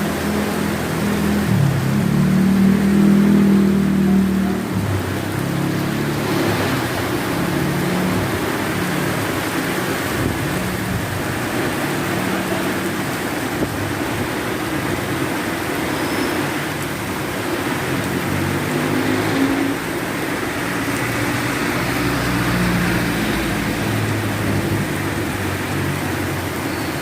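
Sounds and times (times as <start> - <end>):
heavy rain: 0.0 - 27.0
vehicle engine noise: 0.0 - 27.0.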